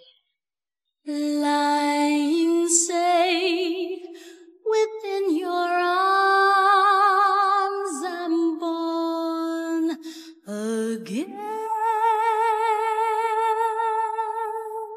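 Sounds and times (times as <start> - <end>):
woman singing a cappella: 1.1 - 14.9.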